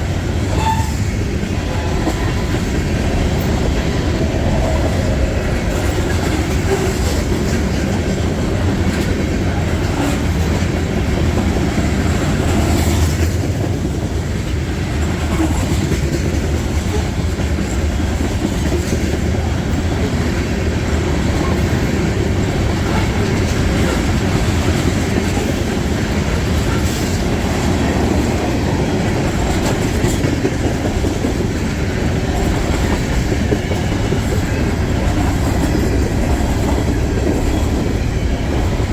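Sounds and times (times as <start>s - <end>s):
freight train wheels clacking: 0.0s - 38.9s.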